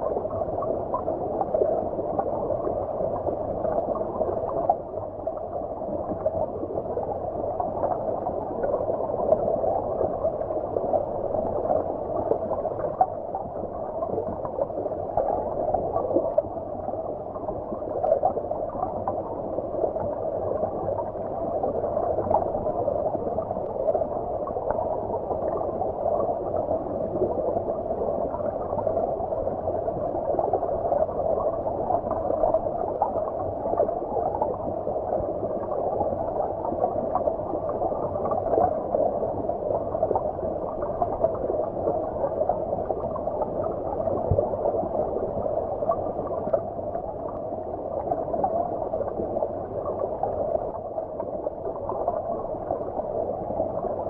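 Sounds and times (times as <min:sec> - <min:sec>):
muffled underwater stream gurgling: 0:00.0 - 0:54.0.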